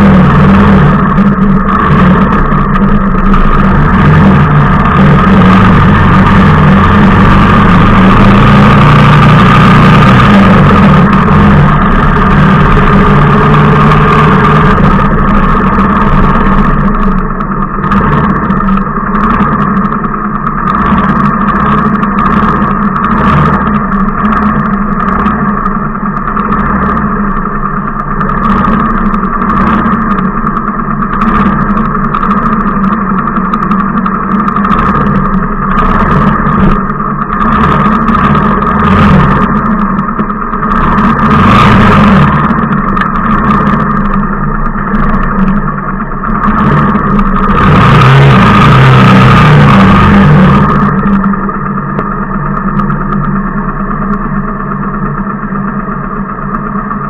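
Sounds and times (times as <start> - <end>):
motorcycle engine idling: 0.0 - 48.1, 48.7 - 57.0.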